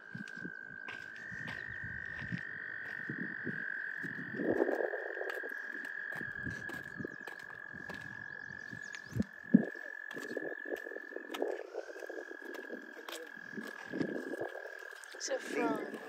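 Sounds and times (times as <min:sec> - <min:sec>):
insect chorus chirping: 0:00.0 - 0:16.0
lower pulsing calls: 0:00.0 - 0:16.0.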